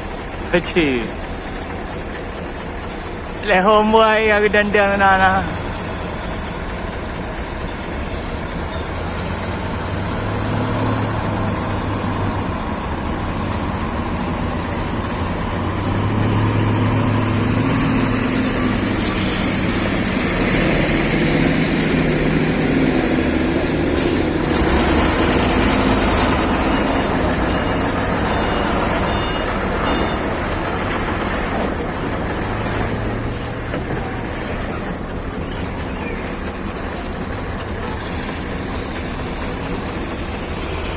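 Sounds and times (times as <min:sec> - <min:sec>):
diesel truck engines running: 0:00.0 - 0:40.9.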